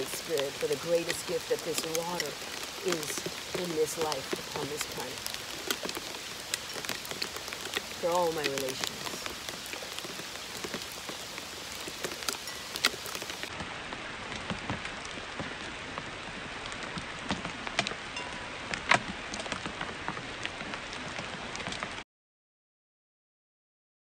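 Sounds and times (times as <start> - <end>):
hailstones ticking: 0.0 - 22.0.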